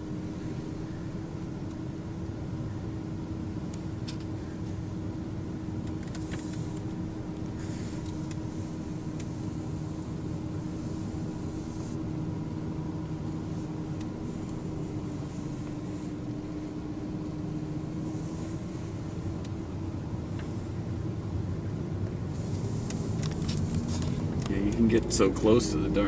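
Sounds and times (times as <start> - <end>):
car engine hum: 0.0 - 26.0
road noise: 0.0 - 26.0.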